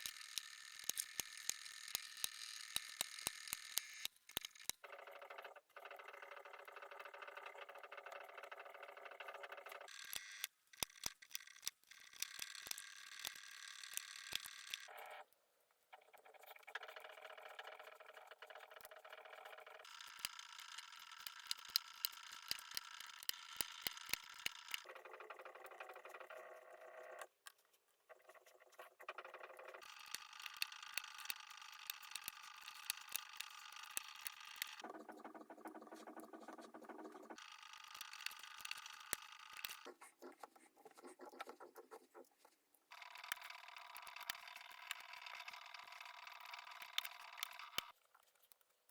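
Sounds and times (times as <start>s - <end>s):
sharp plastic clicks and clatter: 0.0s - 15.1s, 16.0s - 26.6s, 29.0s - 39.9s, 41.1s - 48.9s.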